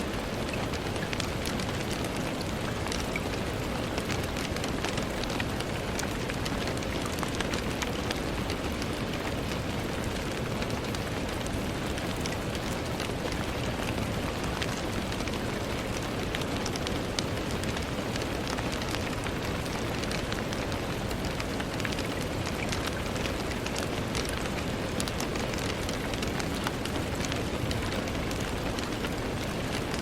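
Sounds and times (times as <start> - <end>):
rain on a window: 0.0 - 30.0
raindrop ticks: 0.0 - 30.0.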